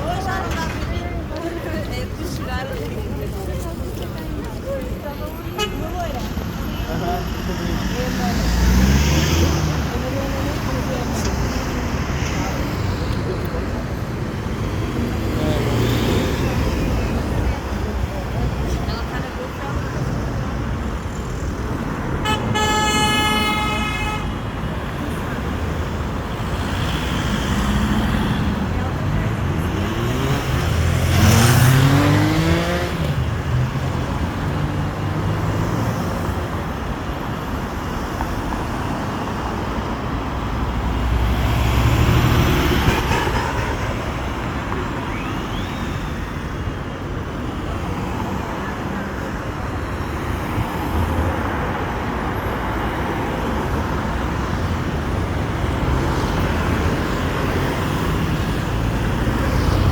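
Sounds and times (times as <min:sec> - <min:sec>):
vehicle engine and tyre rumble: 0:00.0 - 0:59.9.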